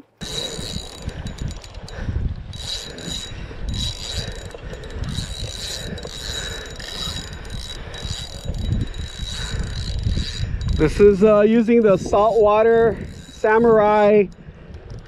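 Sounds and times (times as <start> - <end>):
fishing reel ticking and whirring: 0.2 - 15.0.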